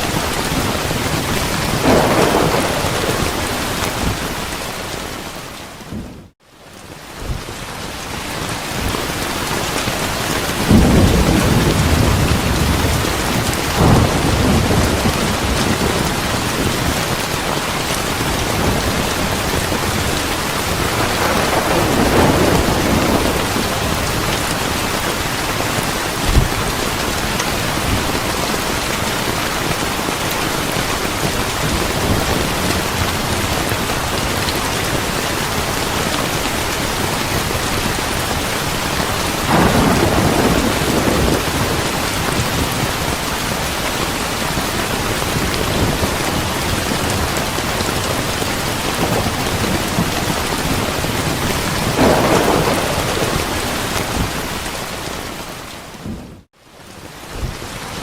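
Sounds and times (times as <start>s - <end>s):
thunder rumbling: 0.0s - 6.3s, 8.7s - 56.5s
heavy rain: 0.0s - 58.0s.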